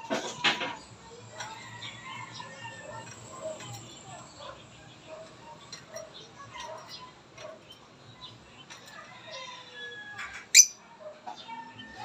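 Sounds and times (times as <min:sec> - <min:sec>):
lovebirds chirping: 0:00.8 - 0:12.0.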